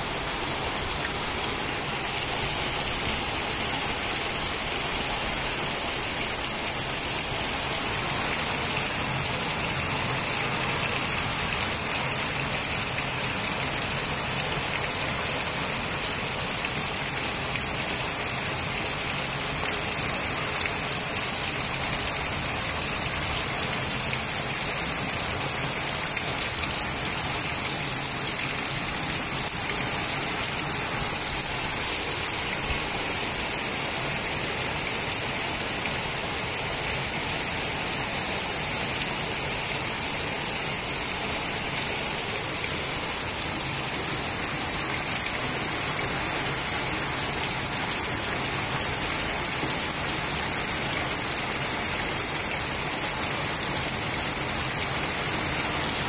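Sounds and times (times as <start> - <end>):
heavy rain on concrete roof: 0.0 - 56.0.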